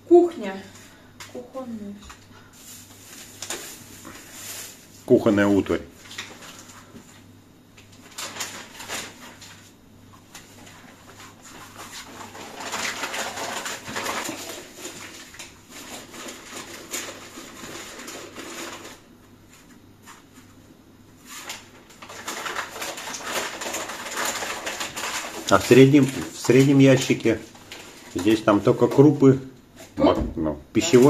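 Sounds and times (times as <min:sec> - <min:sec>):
paper rustling and crinkling: 0:02.5 - 0:20.6, 0:21.2 - 0:29.4.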